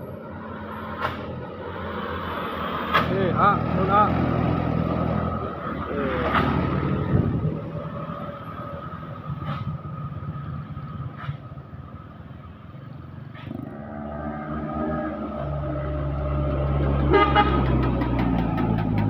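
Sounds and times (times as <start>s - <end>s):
passing vehicle engines: 0.0s - 19.0s.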